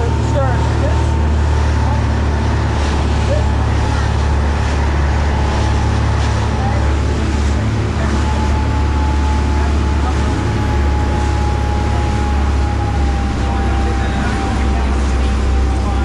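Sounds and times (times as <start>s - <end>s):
boat engine droning: 0.0s - 16.0s
churning water: 0.0s - 16.0s.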